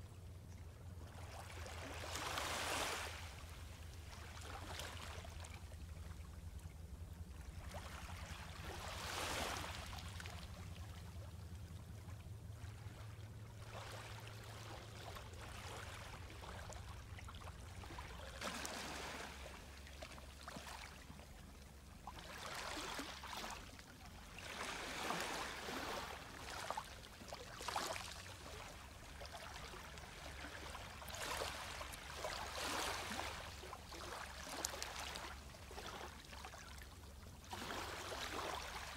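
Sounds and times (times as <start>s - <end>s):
low steady rumble: 0.0s - 38.9s
sea lapping on beach: 1.2s - 5.6s, 7.4s - 11.6s, 12.5s - 38.9s.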